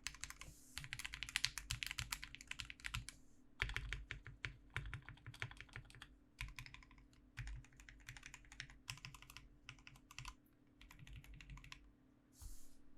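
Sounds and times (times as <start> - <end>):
mechanical keyboard typing: 0.0 - 11.8.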